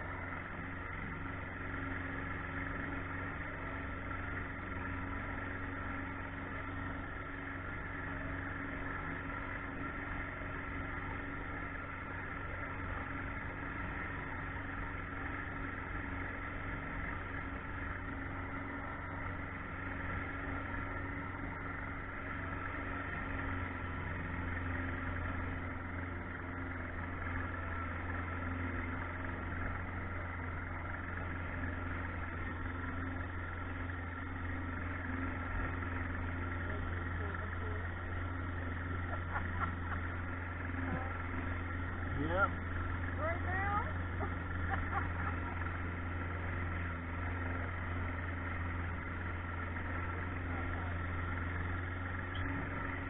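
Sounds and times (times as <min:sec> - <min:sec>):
boat motor humming: 0:00.0 - 0:53.0.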